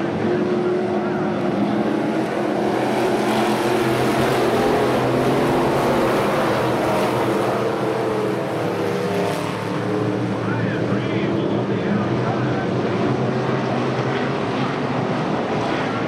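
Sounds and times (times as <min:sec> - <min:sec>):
race car engines roaring: 0:00.0 - 0:16.0.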